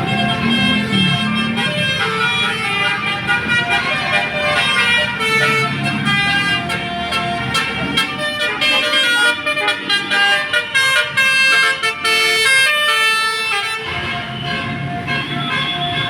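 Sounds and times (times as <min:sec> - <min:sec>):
bus engine: 0:00.0 - 0:16.0
musical bus horn tune: 0:00.0 - 0:16.0.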